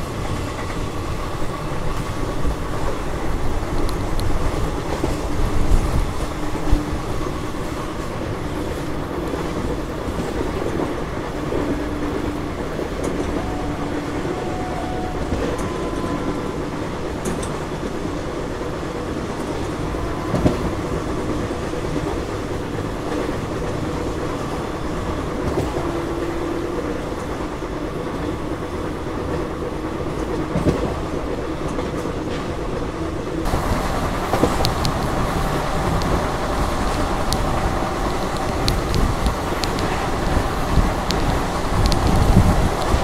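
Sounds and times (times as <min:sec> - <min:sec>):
train running rumble: 0:00.0 - 0:43.0.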